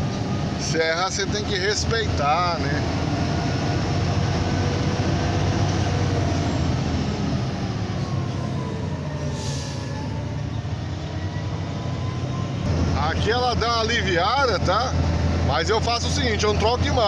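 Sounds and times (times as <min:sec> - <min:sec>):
diesel truck engine pulling: 0:00.0 - 0:17.0
road noise: 0:00.0 - 0:17.0.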